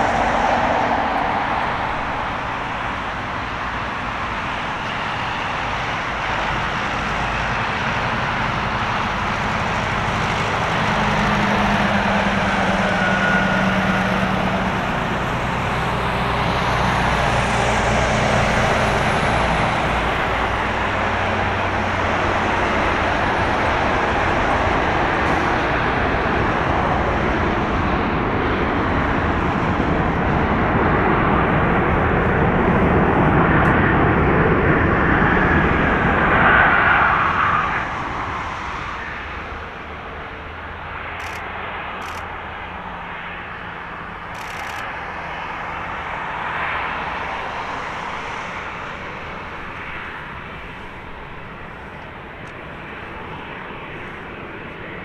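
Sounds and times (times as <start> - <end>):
jet engines idling hum: 0.0 - 55.0
jet engines roaring: 0.0 - 55.0.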